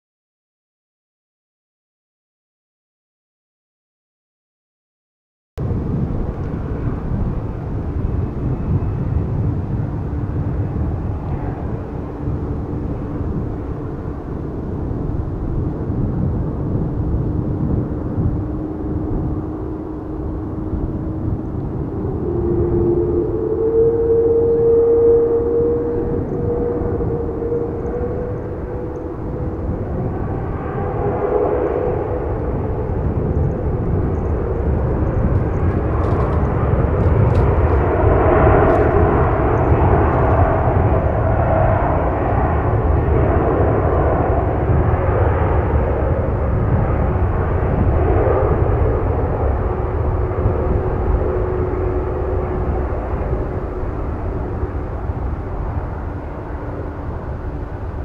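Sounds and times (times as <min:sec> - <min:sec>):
jet engines roaring with whine: 0:05.6 - 0:58.0.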